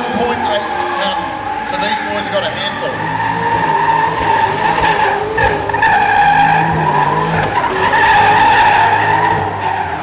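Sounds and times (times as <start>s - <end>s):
engines at high revs: 0.0s - 10.0s
loud tyre squeal: 0.0s - 10.0s.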